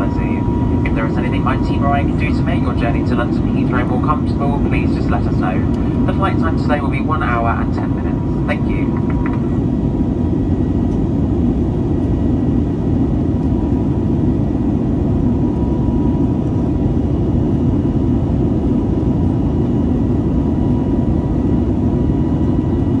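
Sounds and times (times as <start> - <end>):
aircraft engine and airflow rumble: 0.0 - 23.0
faint steady high whine: 0.0 - 23.0.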